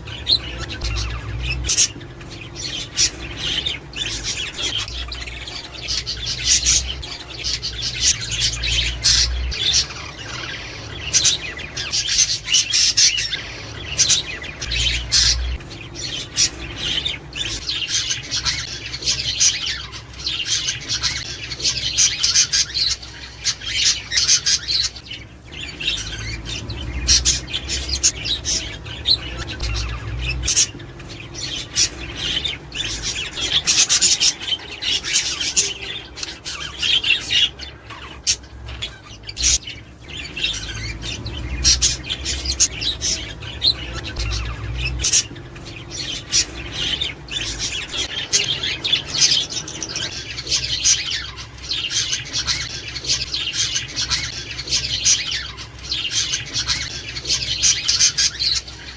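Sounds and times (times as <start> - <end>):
budgerigars chattering and chirping: 0.0 - 58.9.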